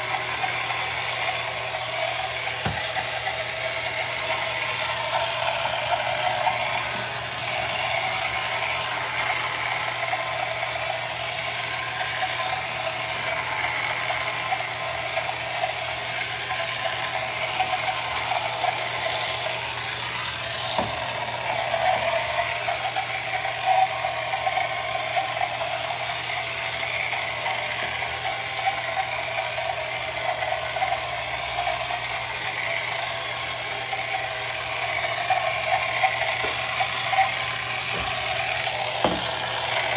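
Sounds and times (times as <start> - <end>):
small electric motor buzzing: 0.0 - 39.9.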